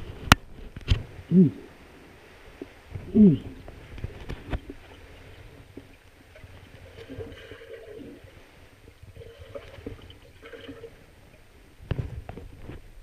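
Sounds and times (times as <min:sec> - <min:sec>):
underwater rumble of moving water: 0:00.0 - 0:13.0
faint gurgling: 0:01.1 - 0:12.2.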